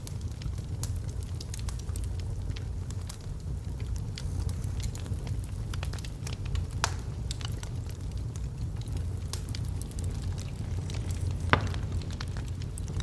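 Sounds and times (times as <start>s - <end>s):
burning wood crackling and popping: 0.0s - 13.0s
fire rumbling in fireplace: 0.0s - 13.0s.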